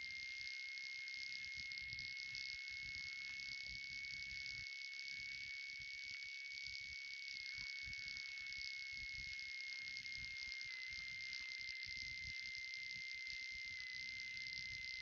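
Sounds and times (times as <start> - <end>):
high-pitched electrical whine: 0.0 - 15.0.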